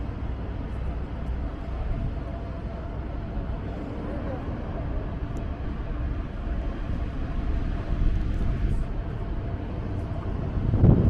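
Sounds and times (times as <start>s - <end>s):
faint engine hum: 0.0s - 11.0s
low rumble of road traffic: 0.0s - 11.0s.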